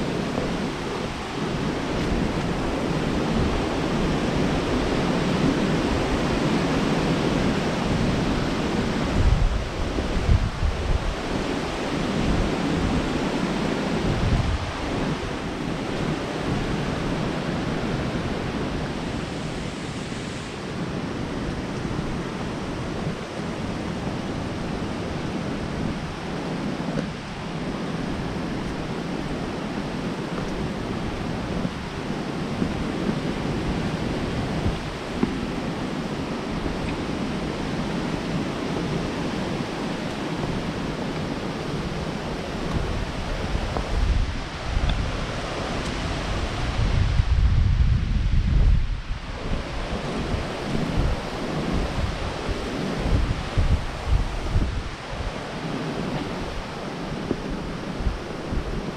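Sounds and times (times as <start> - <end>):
waterfall rushing: 0.0 - 47.6.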